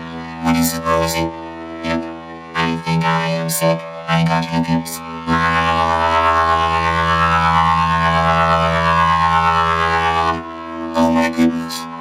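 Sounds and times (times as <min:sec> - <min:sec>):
electronic buzzing drone: 0:00.0 - 0:12.0.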